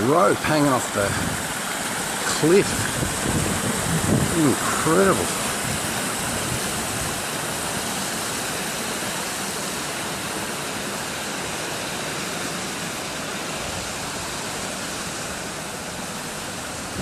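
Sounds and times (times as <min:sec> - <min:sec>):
water rushing down rock cascades: 0:00.0 - 0:17.0.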